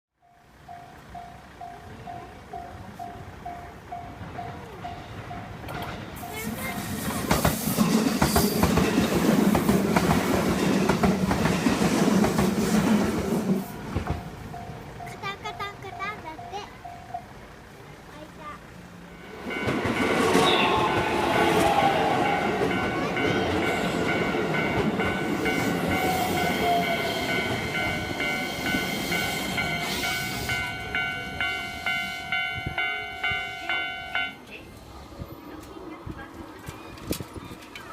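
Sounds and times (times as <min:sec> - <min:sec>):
wheels clacking over rail joints: 0:00.2 - 0:34.4
train rumbling over crossing: 0:00.2 - 0:37.9.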